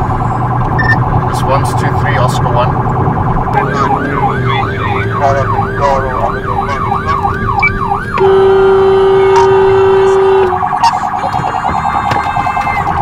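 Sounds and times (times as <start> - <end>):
emergency vehicle siren: 0.0 - 13.0.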